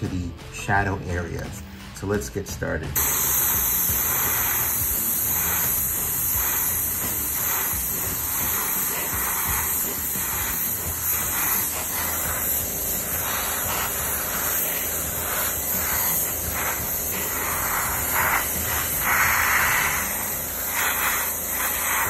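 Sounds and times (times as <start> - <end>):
airbrush hissing: 3.0 - 22.0.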